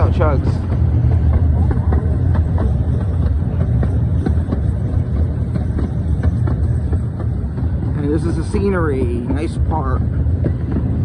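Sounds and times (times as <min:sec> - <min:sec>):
locomotive chugging: 0:00.0 - 0:11.0
miniature steam train rumbling: 0:00.0 - 0:11.0.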